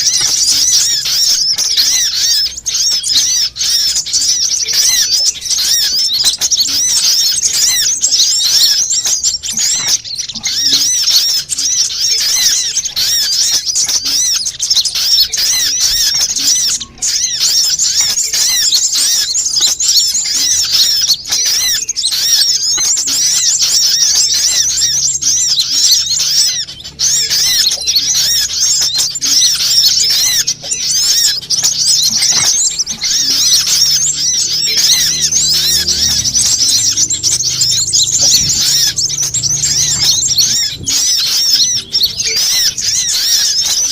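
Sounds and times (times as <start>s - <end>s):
sunbirds chirping and twittering: 0.0s - 43.9s.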